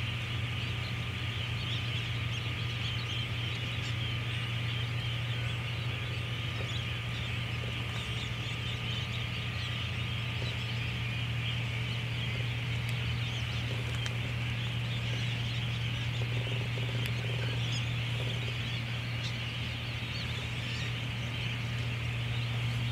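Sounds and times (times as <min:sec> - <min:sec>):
constant low hum: 0:00.0 - 0:22.9
distant waterbird calls: 0:00.0 - 0:22.9.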